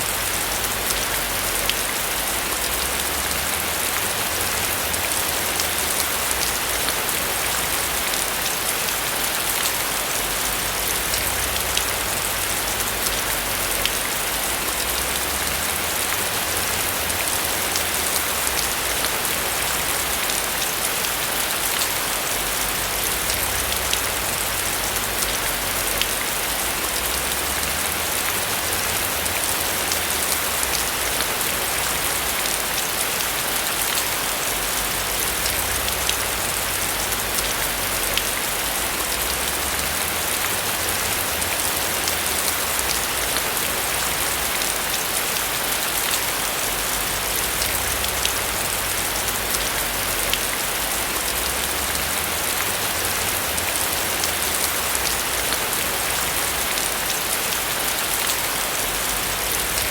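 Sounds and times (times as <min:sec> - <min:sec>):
rain hissing on a roof: 0:00.0 - 0:59.9.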